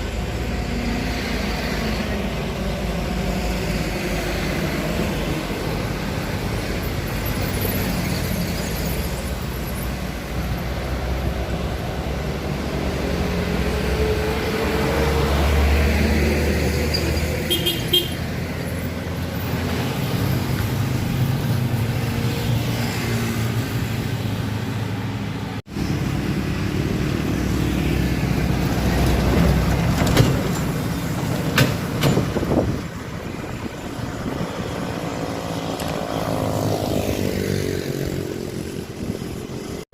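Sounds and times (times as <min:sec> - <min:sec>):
passing traffic: 0:00.0 - 0:39.9.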